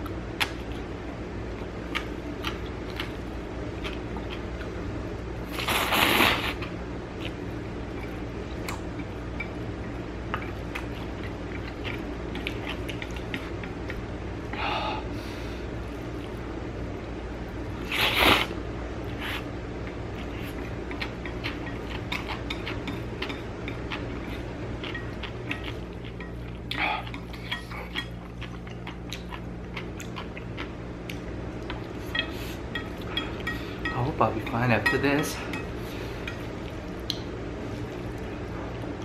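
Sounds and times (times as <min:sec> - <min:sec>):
man chewing noodles: 0:00.0 - 0:16.6, 0:17.4 - 0:33.8, 0:35.6 - 0:39.0.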